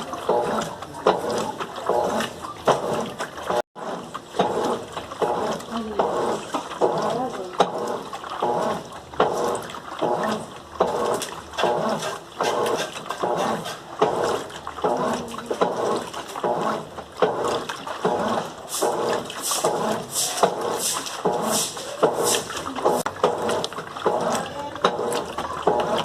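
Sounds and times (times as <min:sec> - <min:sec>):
washing machine sloshing: 0:00.0 - 0:26.0.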